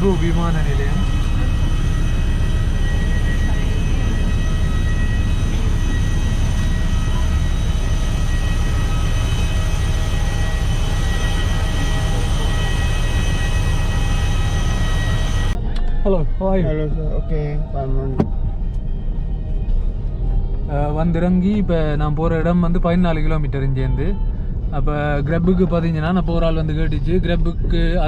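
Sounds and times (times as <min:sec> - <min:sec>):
airliner engines rumbling: 0:00.0 - 0:28.0
high engine whine: 0:00.0 - 0:28.0.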